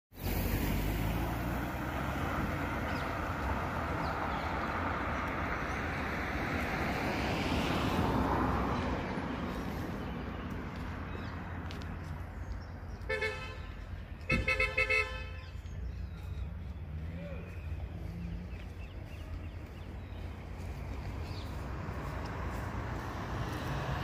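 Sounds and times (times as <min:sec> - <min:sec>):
street traffic: 0:00.1 - 0:24.0
vehicle passing: 0:00.2 - 0:24.0.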